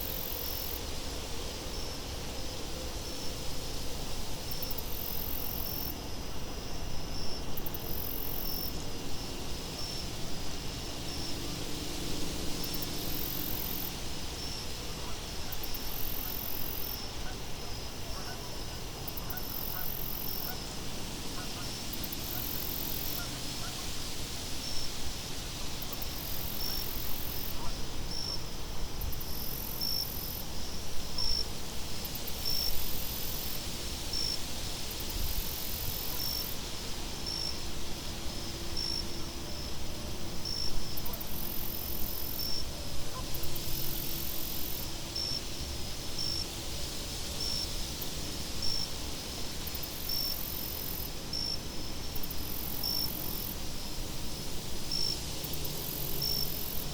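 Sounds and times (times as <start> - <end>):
crickets chirping: 0.0 - 56.9
high insect trill: 0.0 - 56.9.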